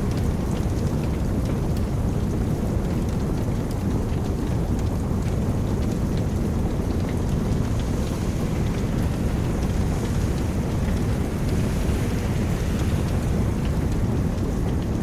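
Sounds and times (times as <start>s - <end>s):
faint light ticks: 0.0s - 15.0s
steady rain: 0.0s - 15.0s.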